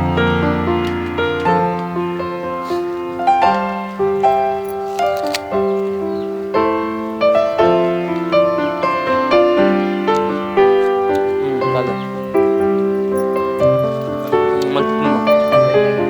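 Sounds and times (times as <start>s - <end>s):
piano melody with chords: 0.0s - 16.0s.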